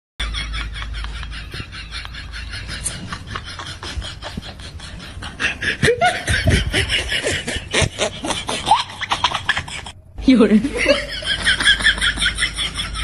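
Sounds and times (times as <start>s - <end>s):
rasping laughter: 0.2s - 10.0s, 10.7s - 13.0s.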